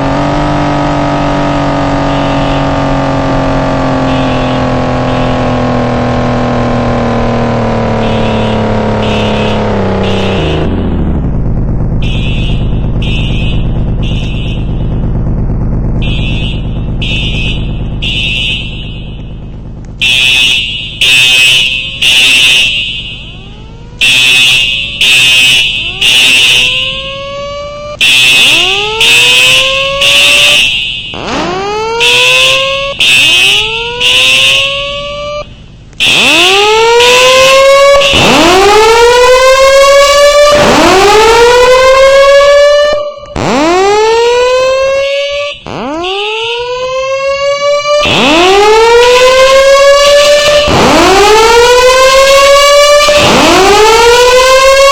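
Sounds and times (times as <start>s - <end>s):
fire alarm horn blasts: 0.0s - 11.3s, 11.9s - 54.9s
electronic siren whoops: 0.0s - 54.9s.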